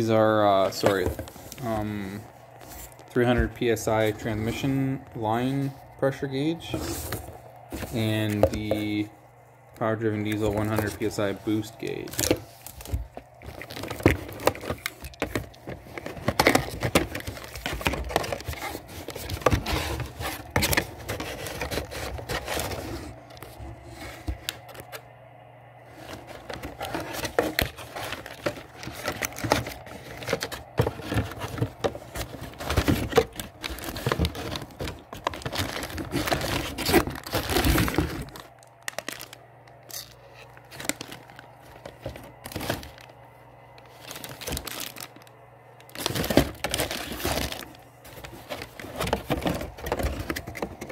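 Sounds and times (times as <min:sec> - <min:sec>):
packaging crinkling and tearing: 0:00.0 - 0:09.0, 0:09.8 - 0:25.0, 0:25.9 - 0:50.9.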